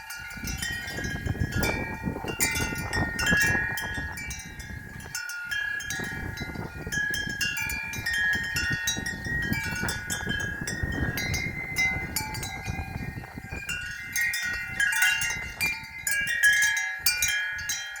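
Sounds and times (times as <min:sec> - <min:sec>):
low wind rumble: 0:00.0 - 0:17.8
wind chimes jangling: 0:00.0 - 0:18.0.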